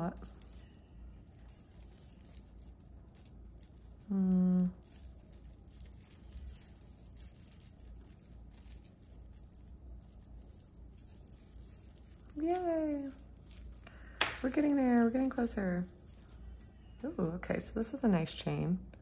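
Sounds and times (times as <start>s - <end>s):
metal chains clinking: 0.0s - 17.2s.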